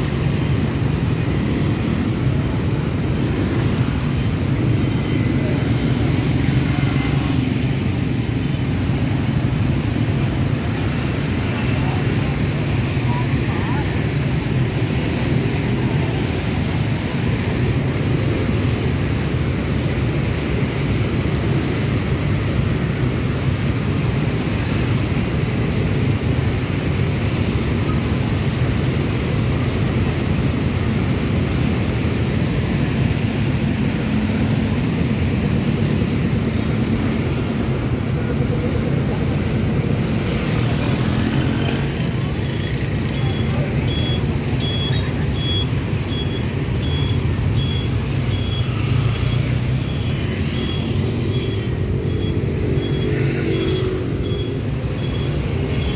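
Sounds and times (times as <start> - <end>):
motorbike traffic rumble: 0.0 - 55.9.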